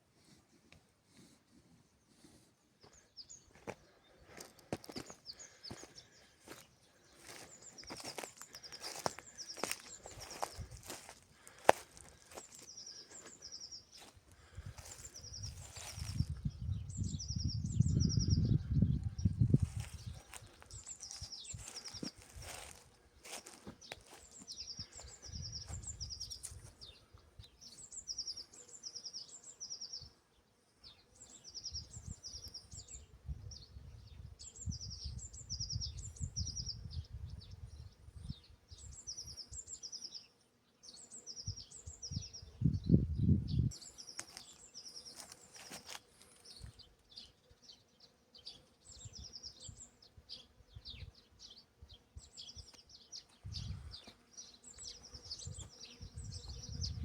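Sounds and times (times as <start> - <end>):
songbird singing: 2.8 - 57.0.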